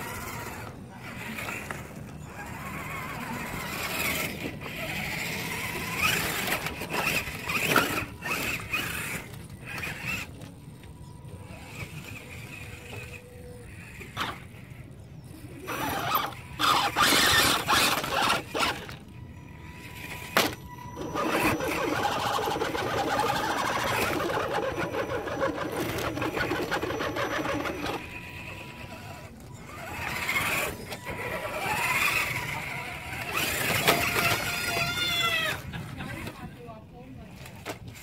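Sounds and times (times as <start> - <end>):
electric motor whirring: 0.0 - 36.3.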